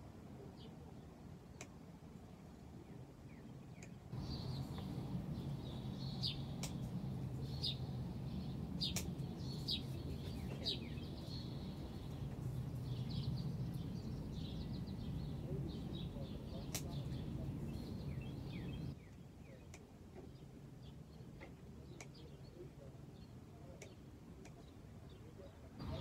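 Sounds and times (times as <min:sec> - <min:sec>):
low steady hum: 0:00.0 - 0:26.0
bird chirping: 0:02.8 - 0:26.0.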